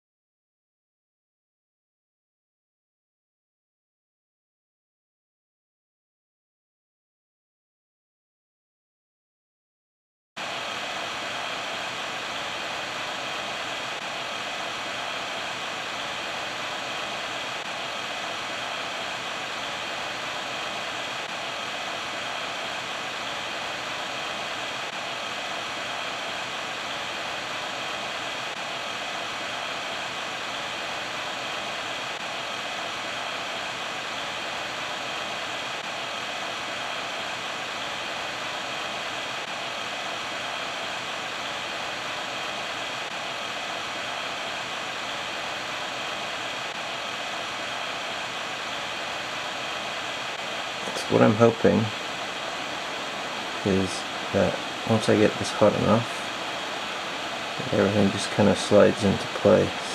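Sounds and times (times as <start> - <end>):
faint steady whine: 10.4 - 59.9
hot air blower hissing: 10.4 - 59.9.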